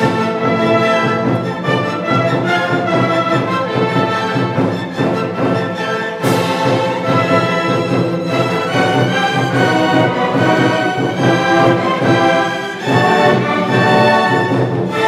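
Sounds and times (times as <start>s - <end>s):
orchestra playing held chords: 0.0s - 15.0s.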